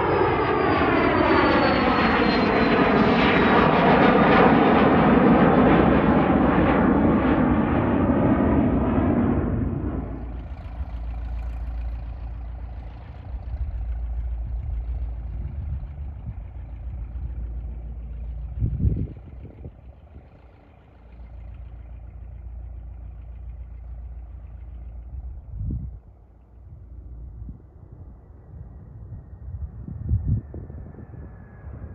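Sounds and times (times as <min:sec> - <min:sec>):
jet engines roaring: 0:00.0 - 0:26.0
low steady rumble: 0:00.0 - 0:31.9.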